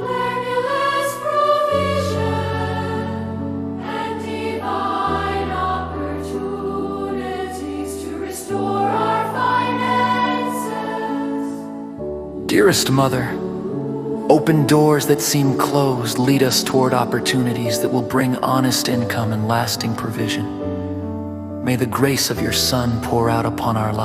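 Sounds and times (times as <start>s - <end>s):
choir singing: 0.0s - 20.8s.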